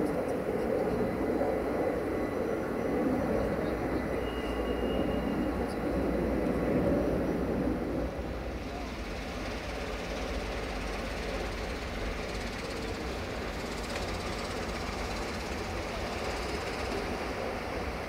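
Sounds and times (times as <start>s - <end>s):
jet airliner engine rumble: 0.0s - 18.0s.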